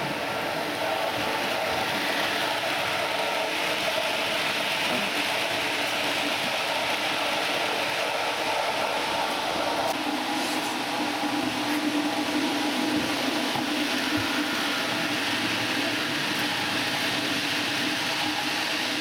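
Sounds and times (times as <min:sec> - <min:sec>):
model train whirr and rumble: 0:00.0 - 0:19.0.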